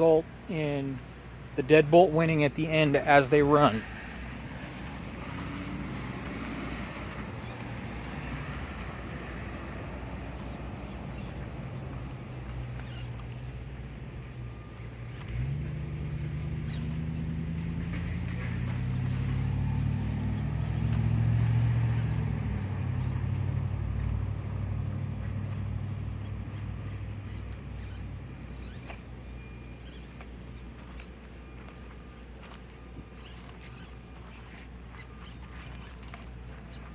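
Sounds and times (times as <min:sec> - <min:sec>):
low motor hum: 0:00.0 - 0:36.9.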